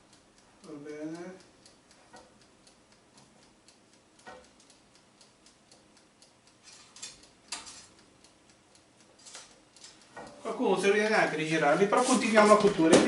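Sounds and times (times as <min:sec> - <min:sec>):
timer dial ticking: 0:00.0 - 0:13.0.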